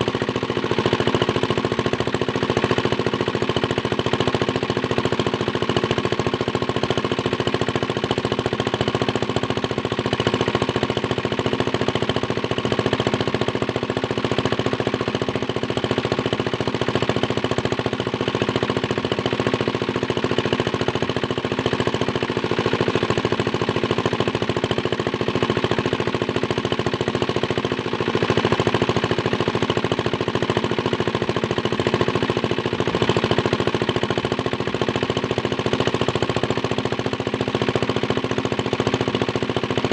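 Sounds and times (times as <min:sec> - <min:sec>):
small diesel engine knocking: 0:00.0 - 0:39.9.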